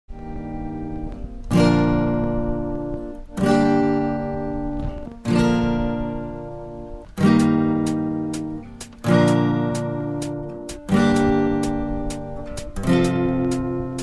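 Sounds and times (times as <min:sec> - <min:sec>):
acoustic guitar strumming: 0:00.1 - 0:14.0.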